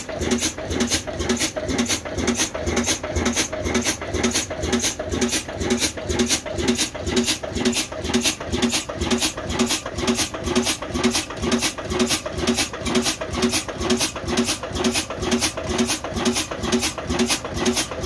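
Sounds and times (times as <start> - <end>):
old engine running slowly: 0.0 - 18.0.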